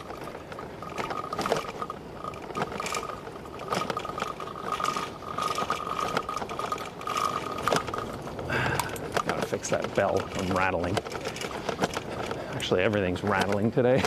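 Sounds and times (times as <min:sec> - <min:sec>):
bicycle rattling: 0:00.0 - 0:14.0
loose fittings clicking and knocking: 0:00.0 - 0:14.0.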